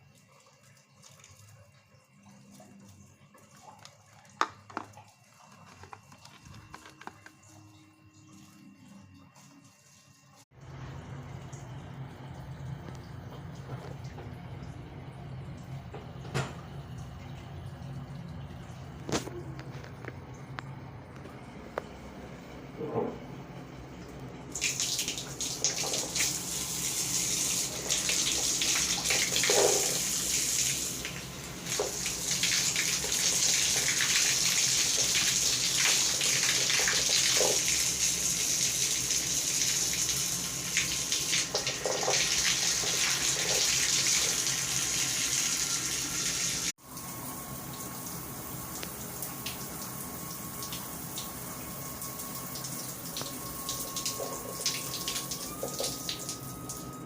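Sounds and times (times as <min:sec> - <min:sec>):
water running from tap: 0:00.0 - 0:20.6, 0:24.0 - 0:57.0.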